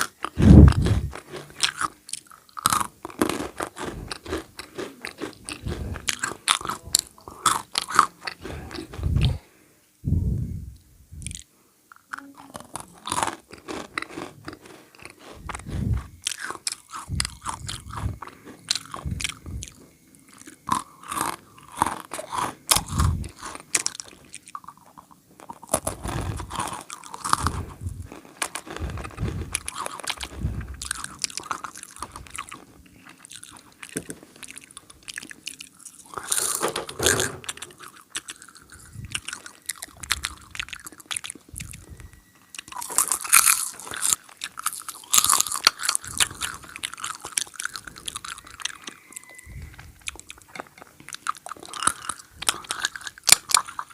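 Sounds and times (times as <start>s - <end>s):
snack food crunching: 0.0s - 9.5s, 11.2s - 53.9s.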